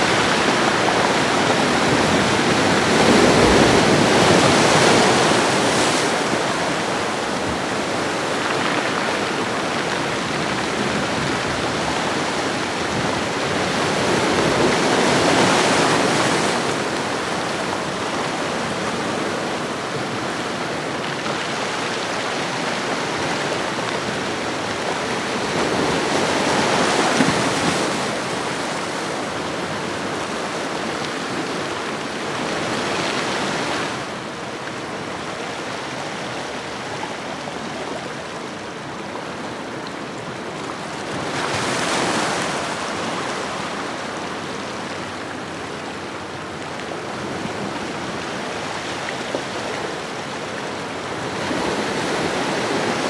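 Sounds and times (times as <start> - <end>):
ocean waves washing along shore: 0.0 - 53.0.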